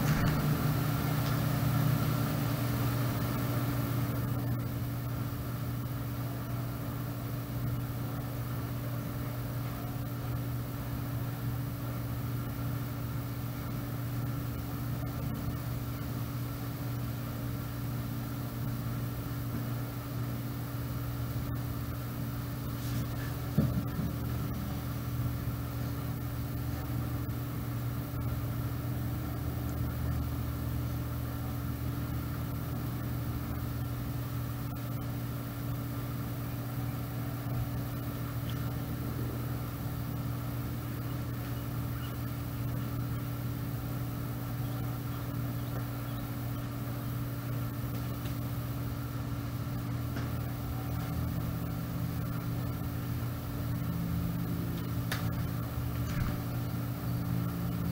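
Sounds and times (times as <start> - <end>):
low mechanical hum: 0.0 - 57.9.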